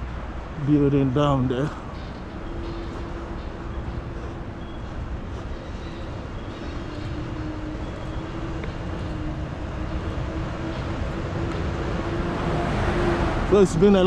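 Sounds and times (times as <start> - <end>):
constant low hum: 0.0 - 13.9
traffic rumble: 0.0 - 14.0.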